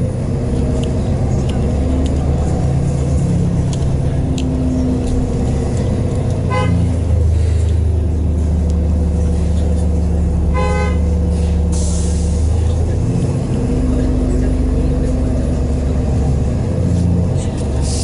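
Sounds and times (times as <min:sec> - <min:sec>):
bus drivetrain drone: 0:00.0 - 0:18.0.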